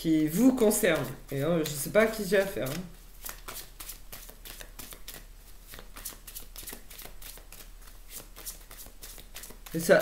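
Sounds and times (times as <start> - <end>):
cards being shuffled: 0.4 - 9.9.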